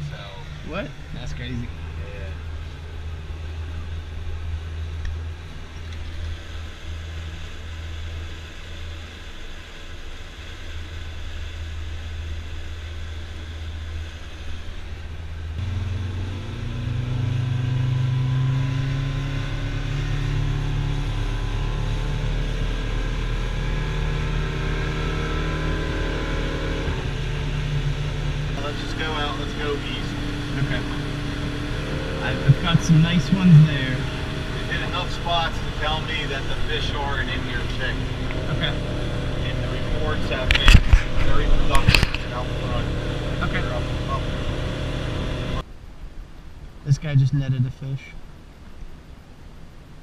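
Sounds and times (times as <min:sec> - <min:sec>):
boat engine running: 0:00.0 - 0:45.6.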